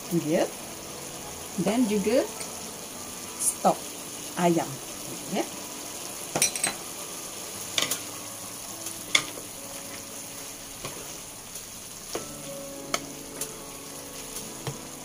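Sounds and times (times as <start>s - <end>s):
spaghetti sizzling in a wok: 0.0s - 15.0s.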